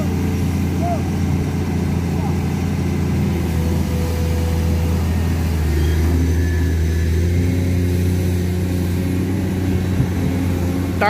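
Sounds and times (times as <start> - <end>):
excavator diesel engine humming: 0.0 - 11.0.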